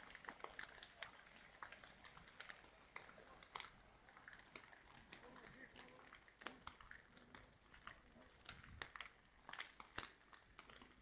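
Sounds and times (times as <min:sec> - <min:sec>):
faint irregular ticks and patters: 0:00.0 - 0:11.0.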